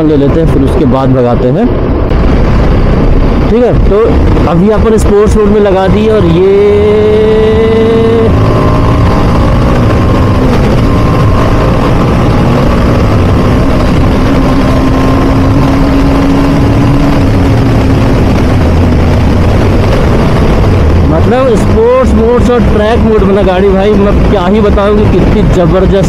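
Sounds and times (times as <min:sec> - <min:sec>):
wind noise on microphone: 0:00.0 - 0:26.0
motorcycle engine running: 0:01.8 - 0:26.0.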